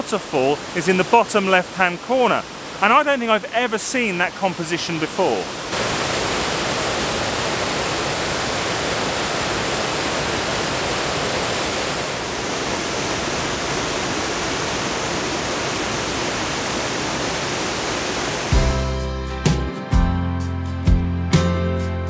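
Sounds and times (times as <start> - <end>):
waterfall rushing: 0.0 - 18.7.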